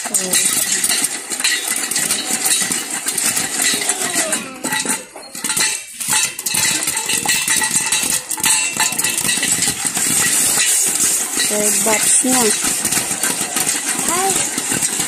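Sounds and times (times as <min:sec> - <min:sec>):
popcorn popping in a covered pot: 0:00.0 - 0:15.0
pops clinking against metal lid: 0:00.0 - 0:15.0.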